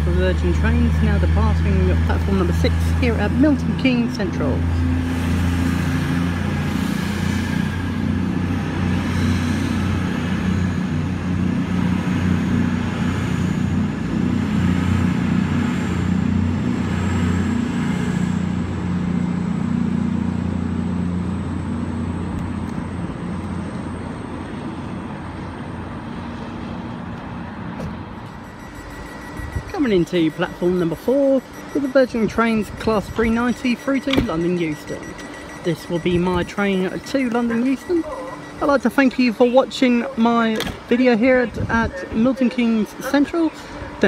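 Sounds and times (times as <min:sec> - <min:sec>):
train diesel engines droning: 0:00.0 - 0:44.0.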